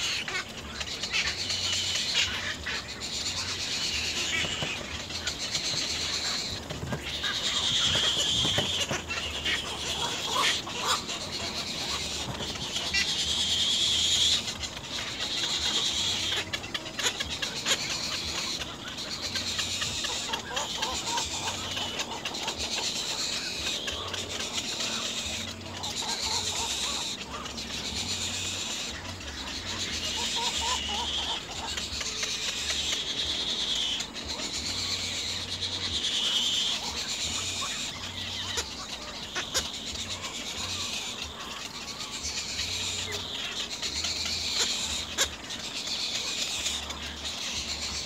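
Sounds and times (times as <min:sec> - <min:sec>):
bird nestlings begging chatter: 0:00.0 - 0:48.0.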